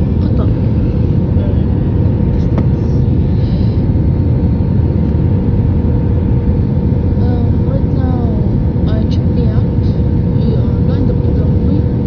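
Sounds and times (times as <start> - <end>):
faint steady hum: 0.0 - 12.0
jet engine rumble in cabin: 0.0 - 12.0.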